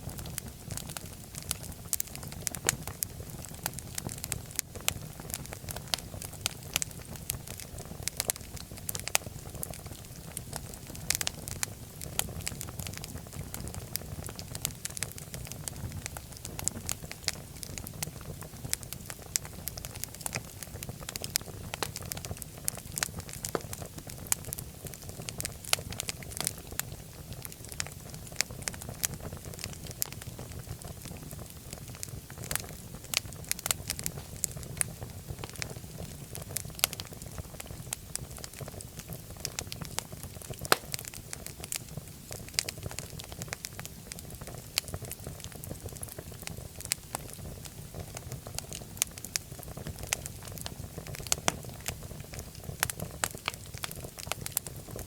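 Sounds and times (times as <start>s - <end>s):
wood fire popping and snapping: 0.0s - 55.0s
low rush of flame: 0.1s - 55.0s.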